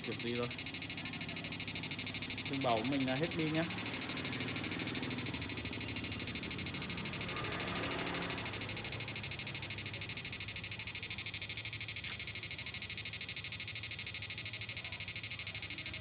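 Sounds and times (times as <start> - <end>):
high-pitched pulsing electronic whine: 0.0 - 16.0.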